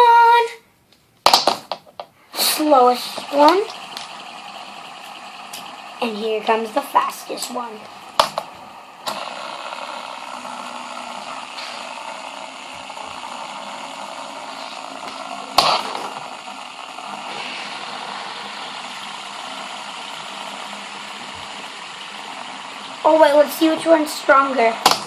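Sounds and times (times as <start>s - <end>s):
fidget spinner whirring: 2.3s - 25.0s.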